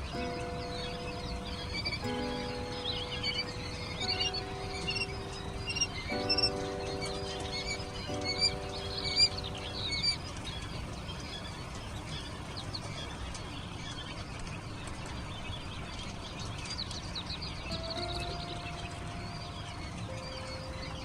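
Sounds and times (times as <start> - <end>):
chicks peeping: 0.0 - 21.0
faint background music: 0.0 - 21.0.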